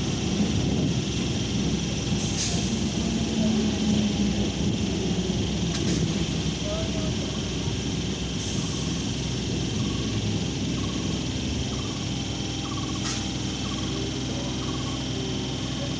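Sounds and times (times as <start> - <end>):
train low rumble: 0.0 - 15.9.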